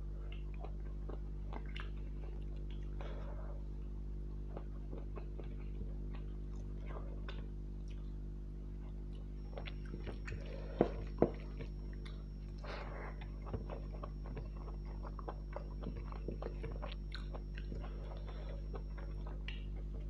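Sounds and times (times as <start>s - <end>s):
low electrical hum: 0.0s - 20.0s
person chewing: 0.2s - 3.7s, 4.4s - 8.2s, 8.8s - 20.0s.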